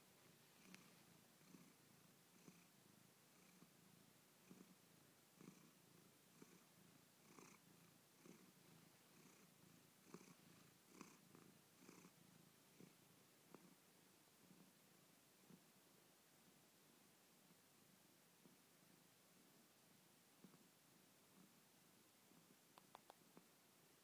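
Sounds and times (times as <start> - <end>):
cat purring: 0.0 - 23.6.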